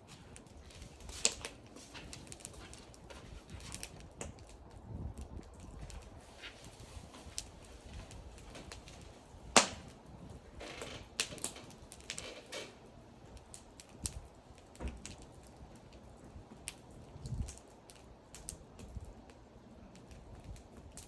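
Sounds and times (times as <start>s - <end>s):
burning wood crackling and popping: 0.0s - 21.0s.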